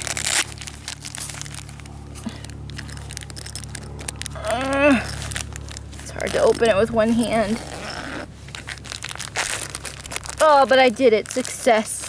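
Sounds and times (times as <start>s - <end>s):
bag rustling and buckle clicks: 0.0s - 12.0s.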